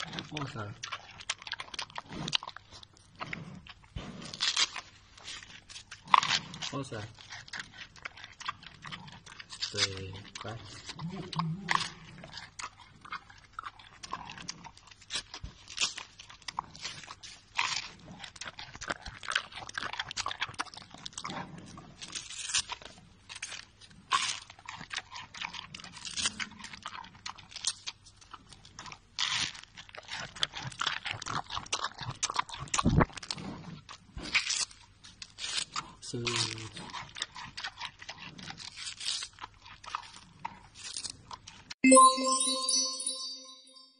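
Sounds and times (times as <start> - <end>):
panda crunching bamboo: 0.0 - 28.0, 29.2 - 41.4
quiet chewing: 0.0 - 41.8.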